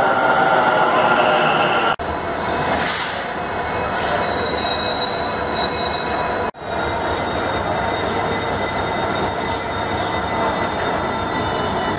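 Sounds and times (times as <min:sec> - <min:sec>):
train rolling: 0:00.0 - 0:11.9
wheels squealing: 0:02.0 - 0:11.9.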